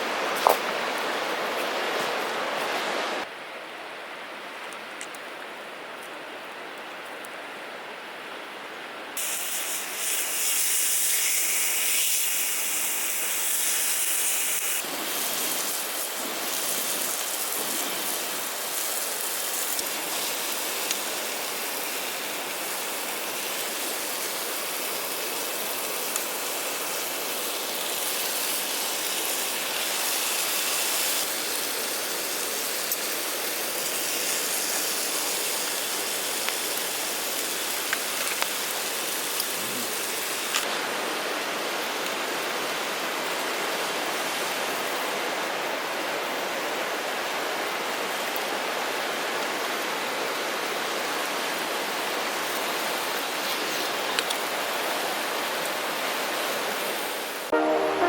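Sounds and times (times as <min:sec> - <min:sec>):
water hissing on campfire: 0:09.2 - 0:57.5.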